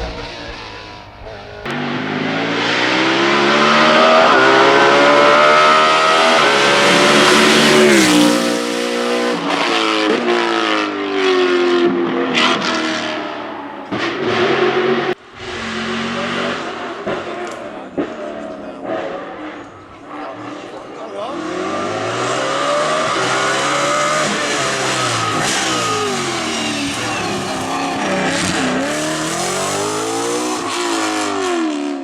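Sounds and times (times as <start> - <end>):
race car engine accelerating: 0.0 - 32.0.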